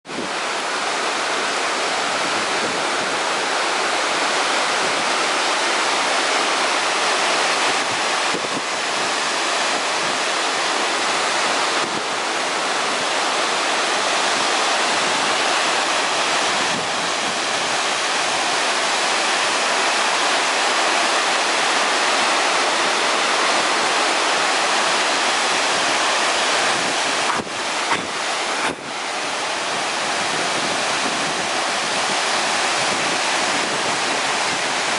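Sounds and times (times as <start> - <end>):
waterfall rushing onto rocks: 0.1 - 34.9.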